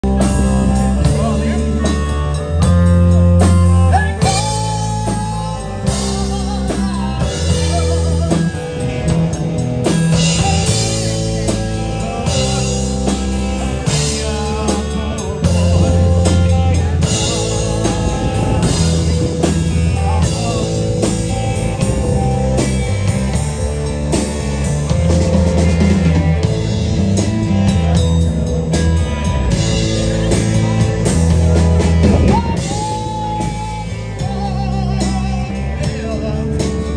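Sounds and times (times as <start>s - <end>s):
drum kit: 0.0s - 36.9s
electric guitar: 0.0s - 36.9s
heavy electric bass line: 0.0s - 36.9s.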